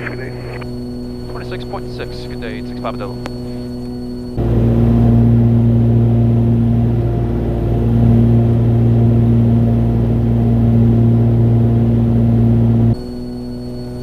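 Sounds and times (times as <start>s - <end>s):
airplane engines droning: 0.0s - 14.0s.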